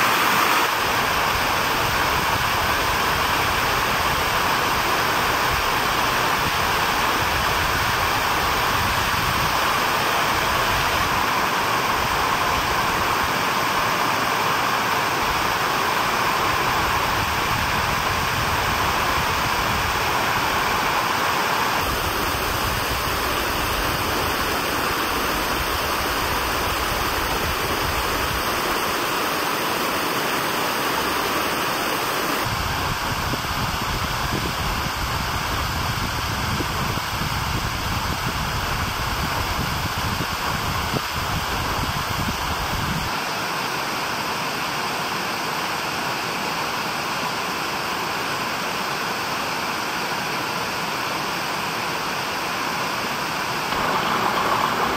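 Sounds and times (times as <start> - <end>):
rush of falling water: 0.0 - 54.9.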